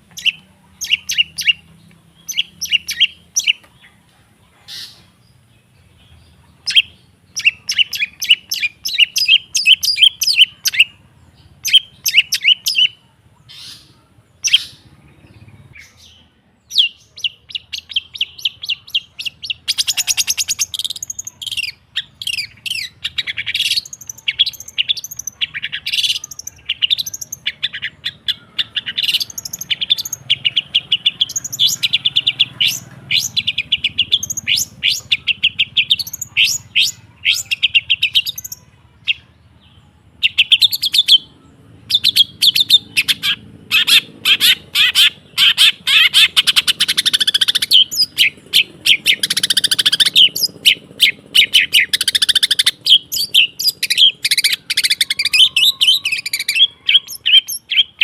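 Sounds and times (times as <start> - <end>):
bird chattering trills: 0.0 - 3.7, 6.6 - 39.3, 40.2 - 58.0.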